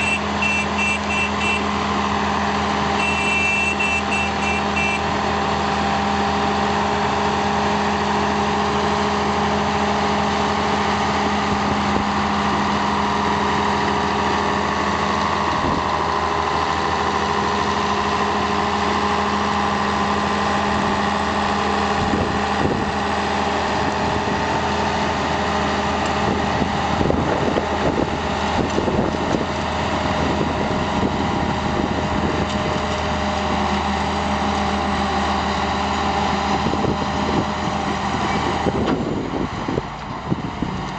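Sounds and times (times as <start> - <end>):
diesel crawler dozer engines: 0.0 - 40.9.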